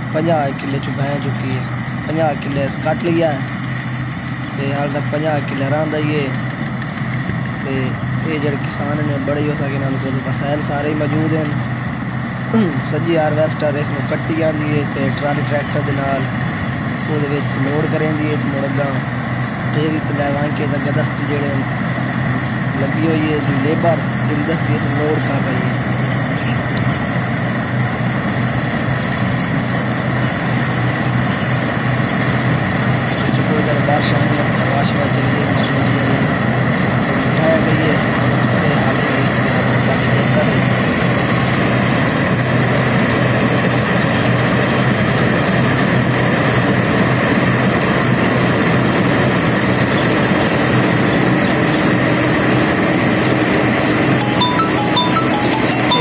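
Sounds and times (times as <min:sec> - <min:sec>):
combine harvester running: 0:00.0 - 0:56.0
machinery whine: 0:00.0 - 0:56.0.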